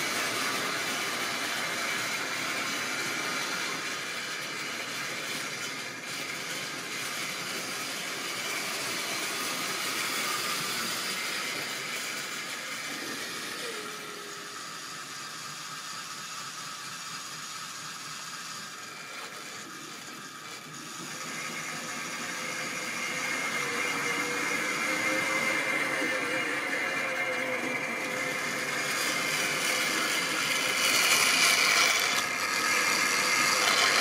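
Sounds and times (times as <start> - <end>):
model train wheels rattling: 0.0 - 34.0
small electric motor whirring: 0.0 - 34.0.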